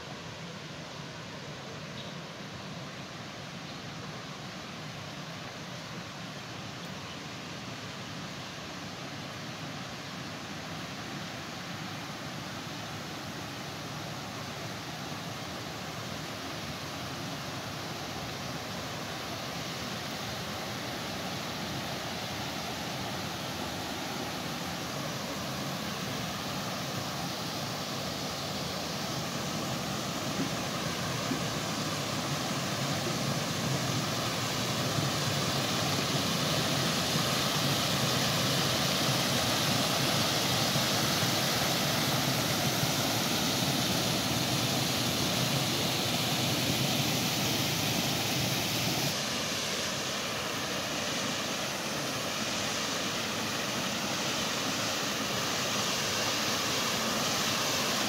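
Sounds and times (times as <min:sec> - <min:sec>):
water rushing over a weir: 0:07.6 - 0:58.0.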